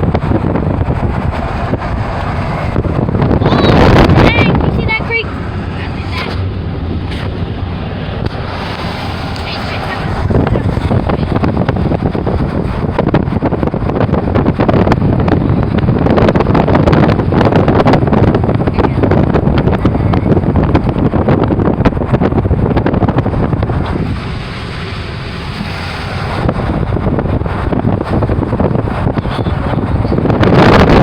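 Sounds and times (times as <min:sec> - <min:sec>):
low steady rumble: 0:00.0 - 0:31.0
wind buffeting microphone: 0:00.0 - 0:31.0.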